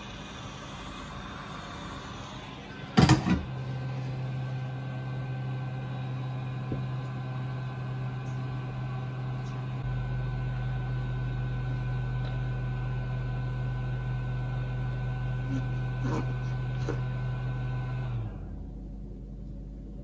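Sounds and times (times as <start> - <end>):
deeper hum: 0.0 - 20.0
low electrical hum: 0.0 - 20.0.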